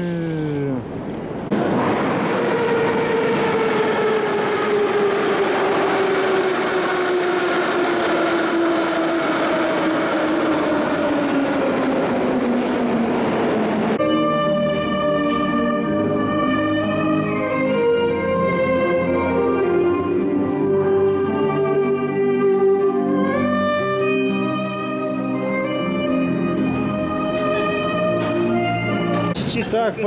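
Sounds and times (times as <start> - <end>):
metro train wheels rumbling: 0.8 - 30.0
train whine falling in pitch: 1.5 - 29.3.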